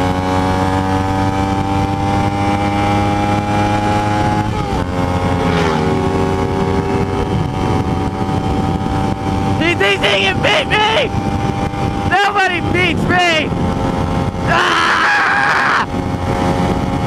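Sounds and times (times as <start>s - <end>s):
motorcycle engine running: 0.0s - 14.8s, 15.8s - 17.0s.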